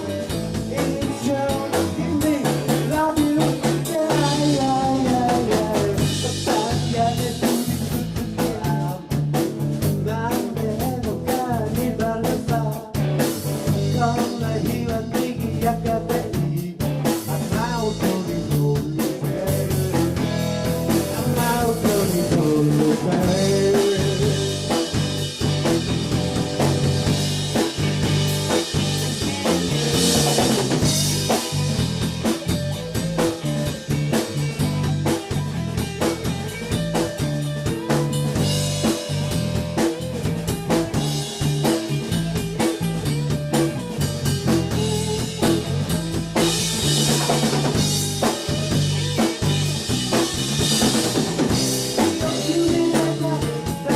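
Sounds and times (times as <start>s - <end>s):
rock band playing: 0.0s - 53.9s.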